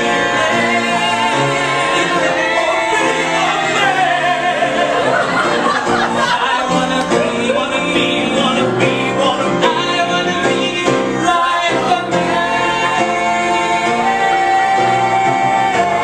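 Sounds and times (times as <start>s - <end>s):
several voices singing together: 0.0s - 16.0s
upright piano accompaniment: 0.0s - 16.0s.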